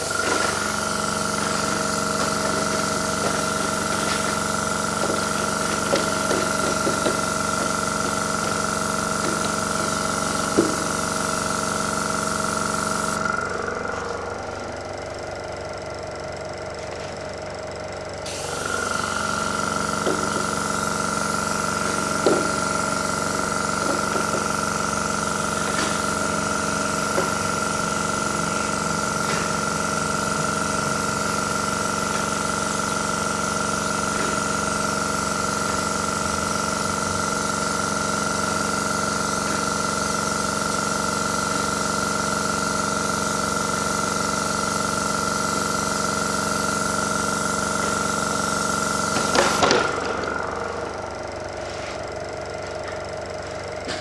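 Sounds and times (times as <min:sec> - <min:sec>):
small motor humming: 0:00.0 - 0:54.0.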